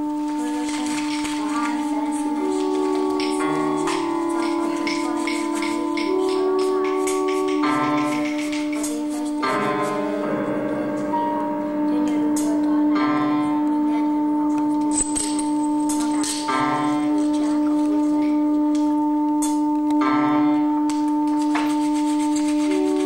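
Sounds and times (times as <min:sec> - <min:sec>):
buzzy layered tone: 0:00.0 - 0:23.0
bell-like ringing tones: 0:00.4 - 0:12.2, 0:12.9 - 0:23.0.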